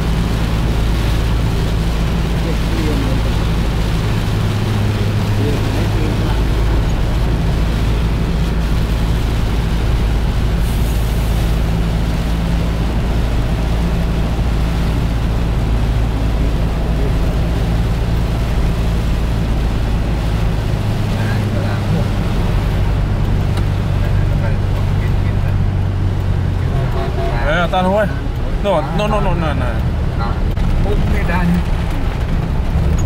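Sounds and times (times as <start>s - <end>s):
engine drone: 0.0s - 33.0s
tyre noise on wet road: 0.0s - 33.0s.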